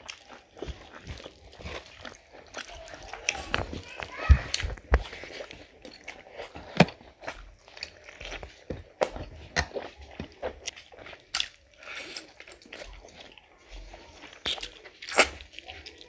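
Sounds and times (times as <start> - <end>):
moist chewing: 0.0 - 16.0.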